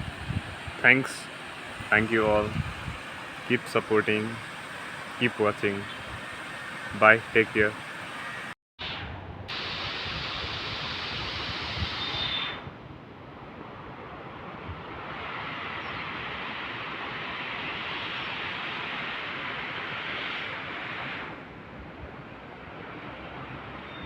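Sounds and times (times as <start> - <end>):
outdoor rushing noise: 0.0 - 23.9.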